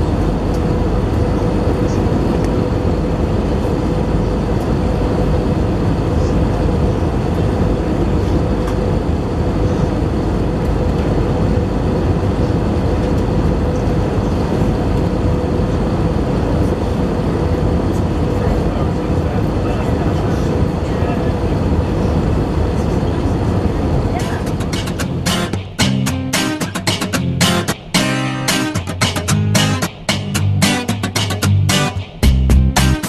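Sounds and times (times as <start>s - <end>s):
engine and airflow rush: 0.0s - 33.0s
steady hum tone: 0.0s - 33.0s.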